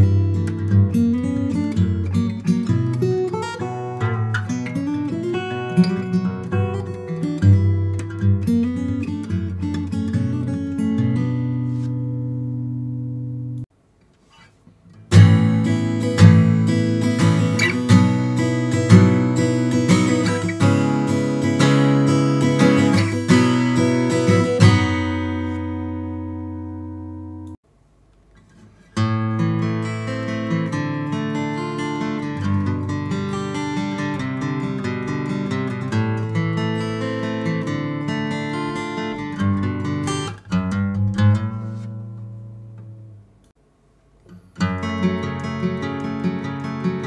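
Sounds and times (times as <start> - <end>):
fingerpicked acoustic guitar: 0.0 - 27.6, 28.3 - 43.4, 44.2 - 47.0.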